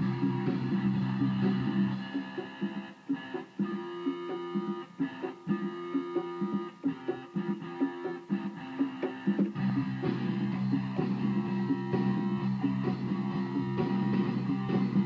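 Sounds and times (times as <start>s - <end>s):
keyboard repeated notes: 0.0s - 15.0s.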